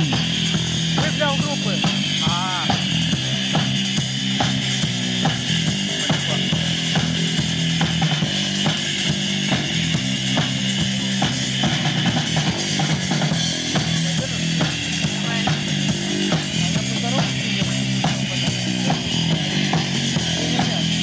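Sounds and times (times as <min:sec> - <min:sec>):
bass line: 0:00.0 - 0:21.0
drum kit beat: 0:00.0 - 0:21.0.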